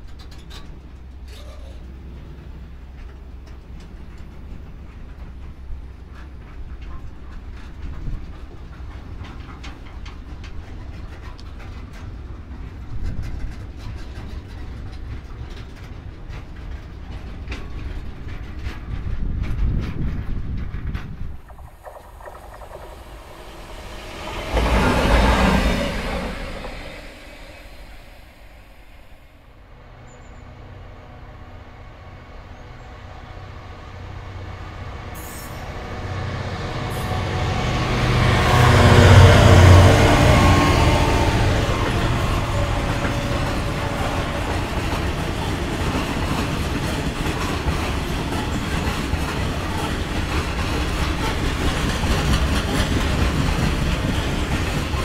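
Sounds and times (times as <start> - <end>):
train wheels clattering over rail joints: 0.0 - 29.0, 36.8 - 55.0
diesel locomotive engine: 0.0 - 55.0.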